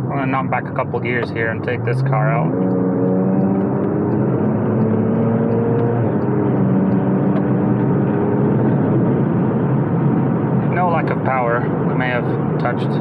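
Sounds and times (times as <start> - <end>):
car engine accelerating hard: 0.2 - 13.0.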